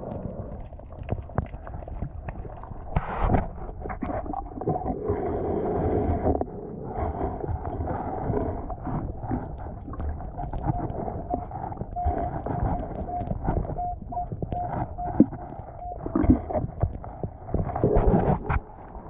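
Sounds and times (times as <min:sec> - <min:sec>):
knocks and thumps underwater: 0:00.0 - 0:19.0
muffled underwater noise: 0:00.0 - 0:19.0.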